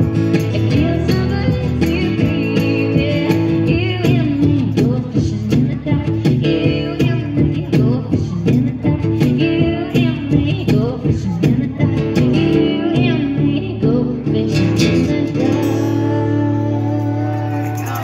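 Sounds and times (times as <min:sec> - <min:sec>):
acoustic guitar strumming: 0:00.0 - 0:18.0
woman singing: 0:00.0 - 0:18.0.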